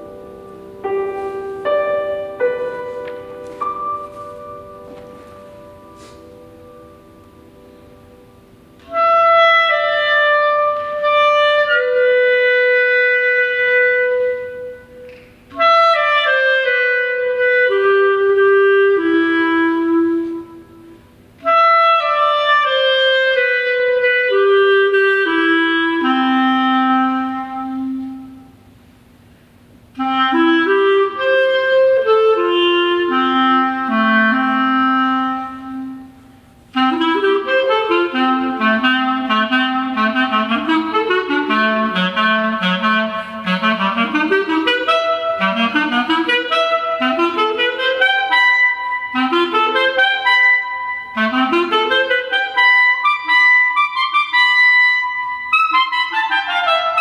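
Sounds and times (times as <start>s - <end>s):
clarinet playing slow melody: 0.0s - 57.0s.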